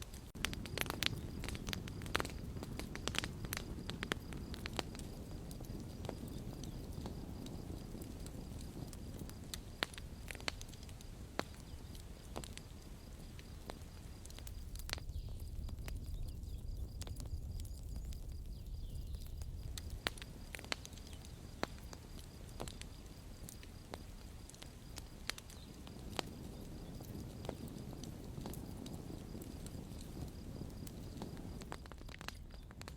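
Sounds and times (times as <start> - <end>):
campfire flames rumbling: 0.0 - 32.9
wood crackling and popping: 0.0 - 32.9.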